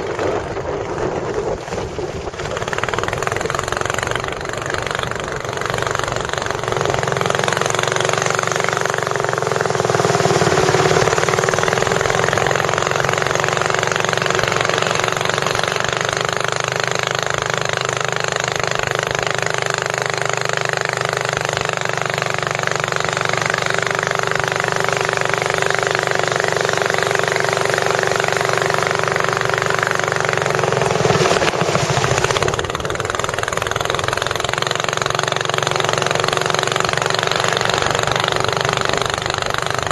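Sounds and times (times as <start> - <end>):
boat engine rattling drone: 0.0 - 39.9.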